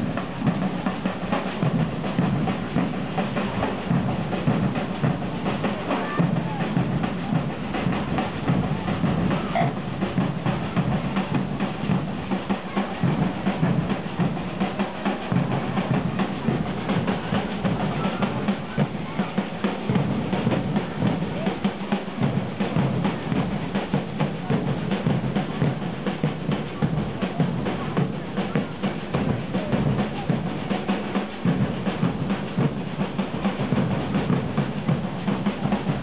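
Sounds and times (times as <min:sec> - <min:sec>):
samba drum group playing: 0:00.0 - 0:36.0.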